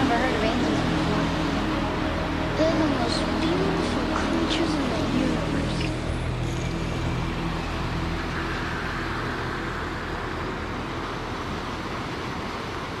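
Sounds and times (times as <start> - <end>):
rushing mountain torrent: 0.0 - 13.0.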